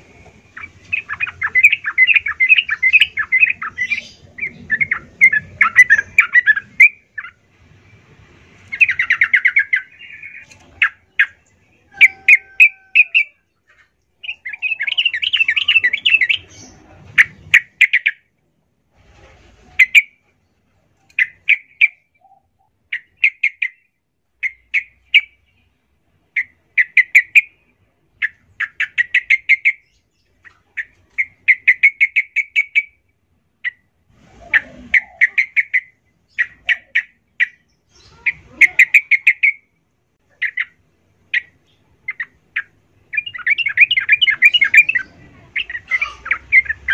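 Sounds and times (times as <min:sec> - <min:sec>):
bird chattering song: 0:00.0 - 0:07.4, 0:08.6 - 0:18.3, 0:19.7 - 0:20.2, 0:21.0 - 0:46.9.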